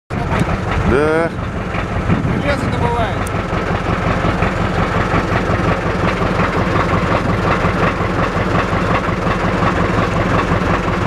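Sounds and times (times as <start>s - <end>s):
motor boat engine running: 0.1s - 11.0s.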